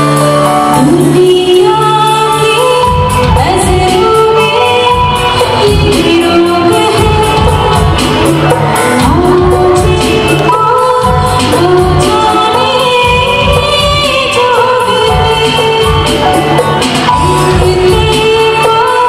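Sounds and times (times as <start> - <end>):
live band playing: 0.0 - 19.0
woman singing into microphone: 0.0 - 19.0.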